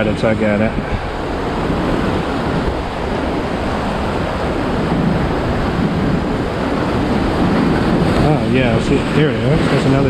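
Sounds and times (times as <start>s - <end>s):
surf breaking on rocks: 0.0s - 10.0s.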